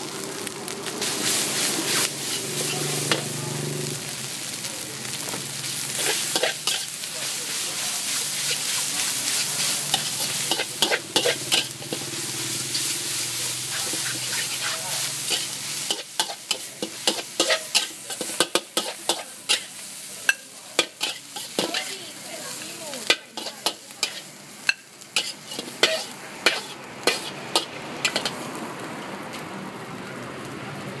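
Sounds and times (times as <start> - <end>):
rice sizzling in a metal wok: 0.0 - 31.0
metal spatula scraping a wok: 1.0 - 3.4, 5.8 - 28.5.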